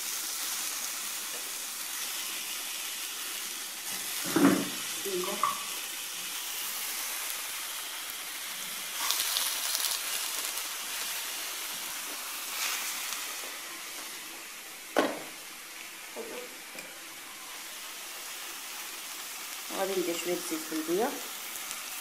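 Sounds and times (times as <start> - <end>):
meat sizzling: 0.0 - 22.0.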